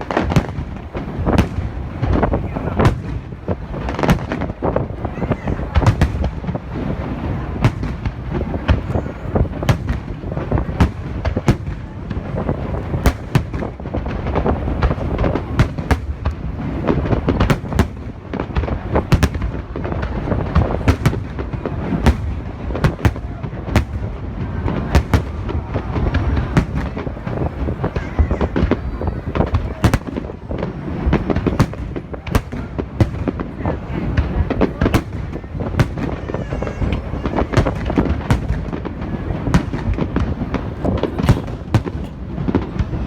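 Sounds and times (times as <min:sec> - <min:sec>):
fireworks sharp bangs: 0:00.0 - 0:43.0.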